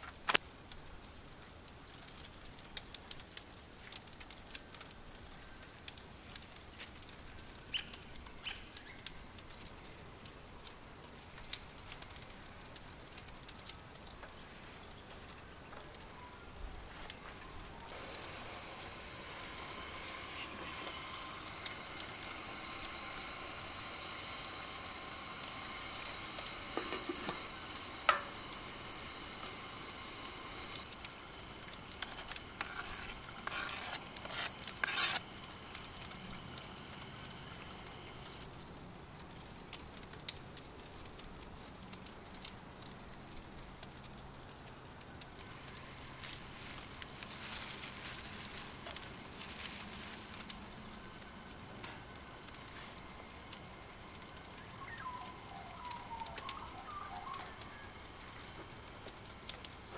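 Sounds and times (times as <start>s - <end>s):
food sizzling: 0.0s - 41.1s, 41.7s - 59.9s
wood fire crackling: 0.0s - 59.9s.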